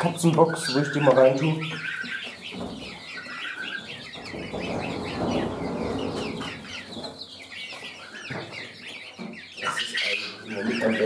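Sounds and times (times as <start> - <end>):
chickens clucking: 0.0 - 11.0
chicks cheeping: 0.0 - 11.0.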